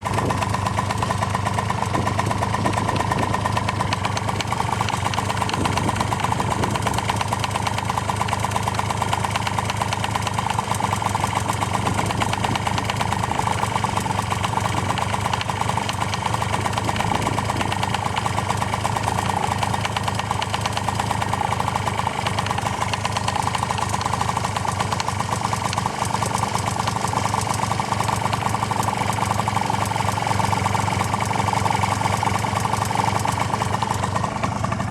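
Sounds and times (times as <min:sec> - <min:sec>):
engine knocking: 0:00.0 - 0:34.9
two-stroke engine idling: 0:00.0 - 0:34.9.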